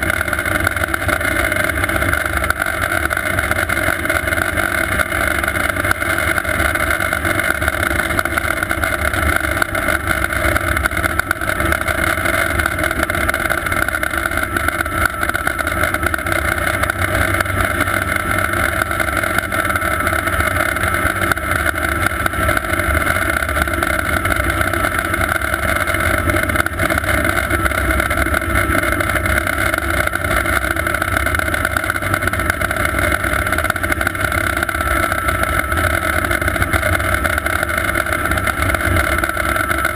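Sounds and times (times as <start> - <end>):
helicopter rotors rumbling: 0.0 - 39.9
helicopter turbine whine: 0.0 - 39.9.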